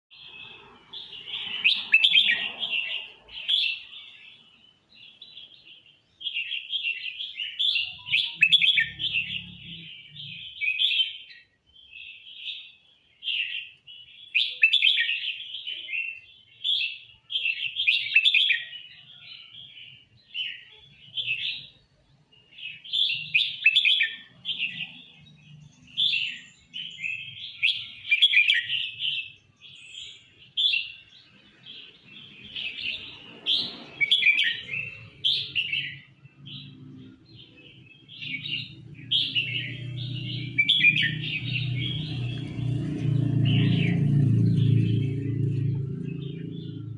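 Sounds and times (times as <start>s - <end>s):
bird warbling song: 0.1s - 46.9s.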